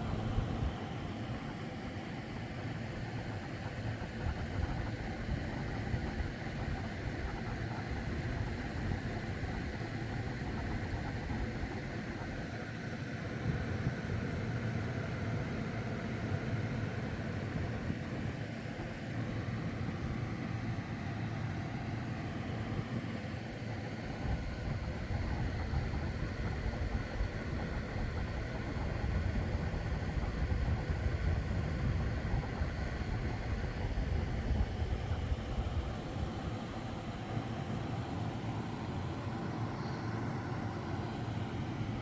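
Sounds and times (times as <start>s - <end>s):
electric fan whirring: 0.0s - 42.0s.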